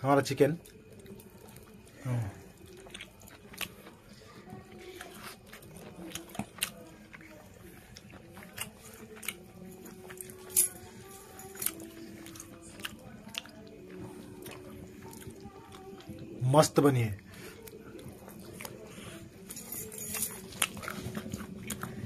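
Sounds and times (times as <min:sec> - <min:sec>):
person chewing chicken: 0:00.6 - 0:16.3, 0:17.3 - 0:22.0.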